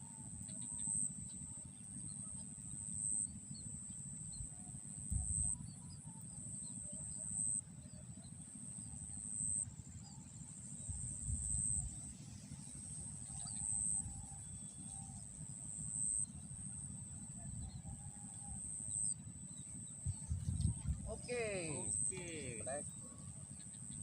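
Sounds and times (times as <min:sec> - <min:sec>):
faint bird chirps: 0:00.0 - 0:08.6, 0:09.2 - 0:24.0.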